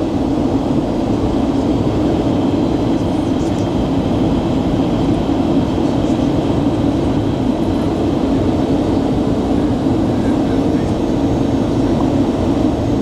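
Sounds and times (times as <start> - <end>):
jet cabin engine roar: 0.0 - 13.0.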